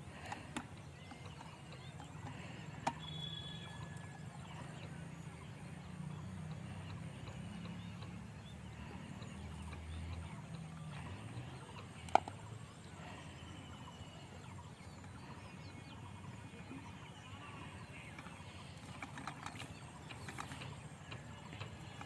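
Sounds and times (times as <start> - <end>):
bird chirps: 0.2 - 22.0.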